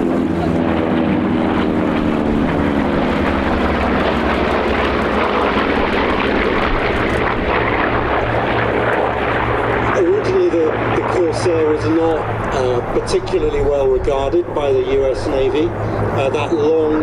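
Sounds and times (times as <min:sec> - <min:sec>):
propeller aircraft droning past: 0:00.0 - 0:17.0.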